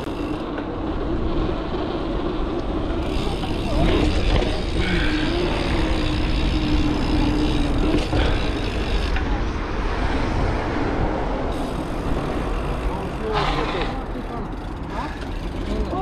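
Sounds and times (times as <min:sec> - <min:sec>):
road noise: 0:00.0 - 0:16.0
wind rumbling on microphone: 0:00.0 - 0:16.0.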